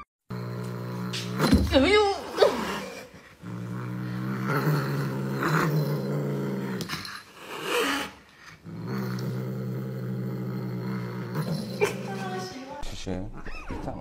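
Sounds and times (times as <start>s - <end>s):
cat growling low: 0.3s - 12.8s.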